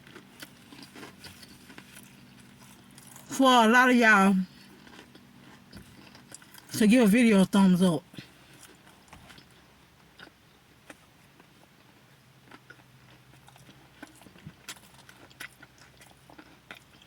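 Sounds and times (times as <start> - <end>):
person chewing a sandwich: 0.0 - 3.3, 4.5 - 6.7, 8.2 - 17.0
faint low hum: 0.0 - 17.0.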